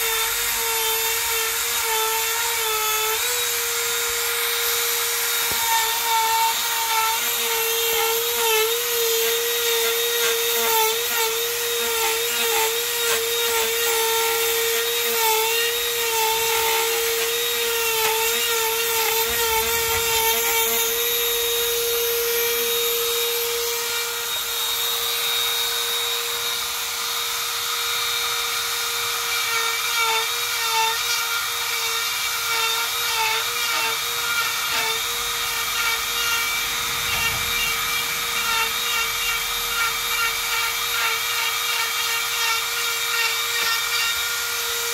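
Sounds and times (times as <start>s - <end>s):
rotary tool whining: 0.0s - 44.9s.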